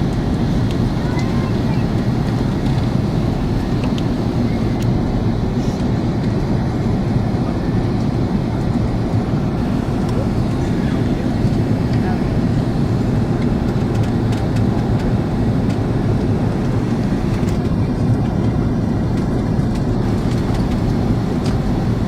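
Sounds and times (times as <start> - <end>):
airliner cabin engine rush: 0.0 - 22.0.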